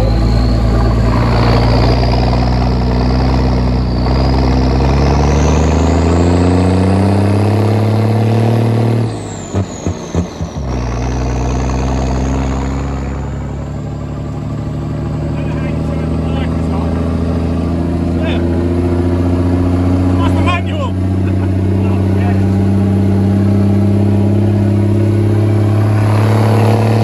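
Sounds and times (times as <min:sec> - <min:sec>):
high whine: 0:00.0 - 0:06.4, 0:09.0 - 0:27.0
truck engine accelerating: 0:00.0 - 0:27.0.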